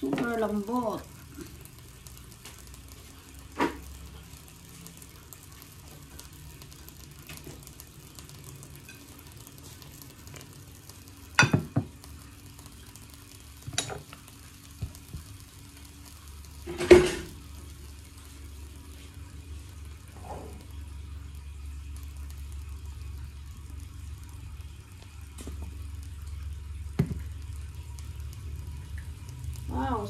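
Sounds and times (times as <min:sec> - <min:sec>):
pancakes sizzling in pans: 0:00.0 - 0:30.0.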